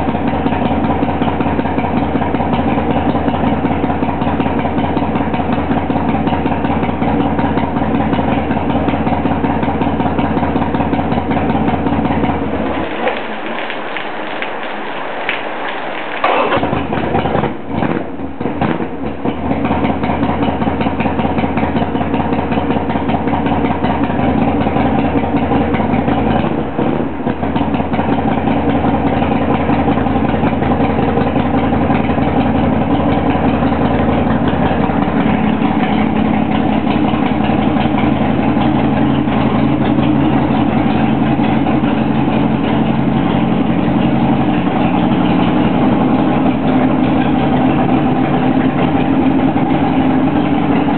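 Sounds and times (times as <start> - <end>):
motorcycle engine idling: 0.0 - 14.7, 16.1 - 50.9.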